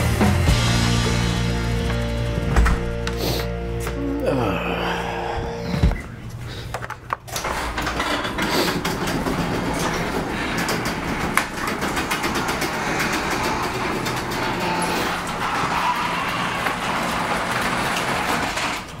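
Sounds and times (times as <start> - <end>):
garage door opener running: 0.0 - 6.2, 6.9 - 19.0.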